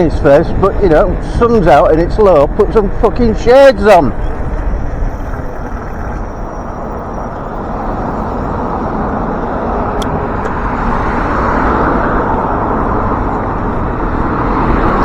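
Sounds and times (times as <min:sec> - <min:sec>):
motor vehicle approaching: 0:00.0 - 0:15.0
wind rumble on microphone: 0:00.0 - 0:15.0.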